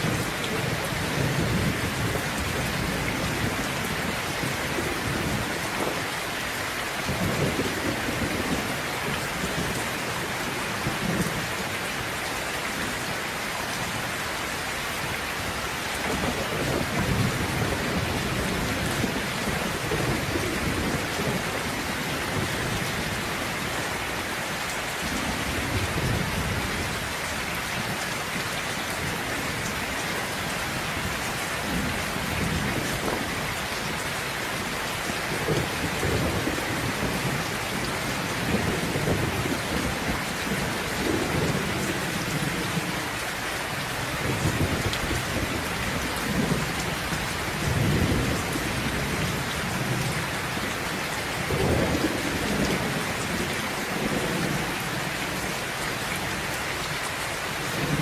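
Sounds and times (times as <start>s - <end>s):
steady rain pouring: 0.0s - 58.0s.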